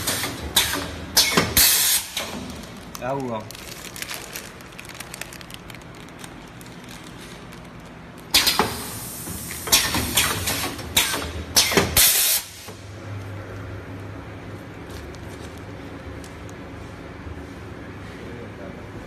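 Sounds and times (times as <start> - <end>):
packing machine humming: 0.0 - 19.0.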